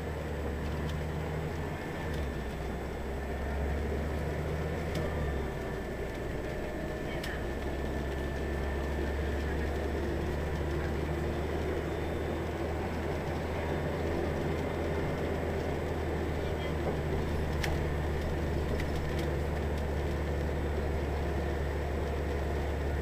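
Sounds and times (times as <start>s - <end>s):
bus diesel engine drone: 0.0s - 23.0s
road and body noise: 0.0s - 23.0s.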